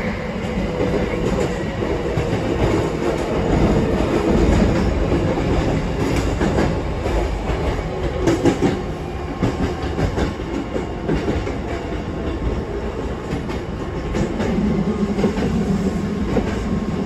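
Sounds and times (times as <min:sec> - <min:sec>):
rumble of train wheels on track: 0:00.0 - 0:17.0.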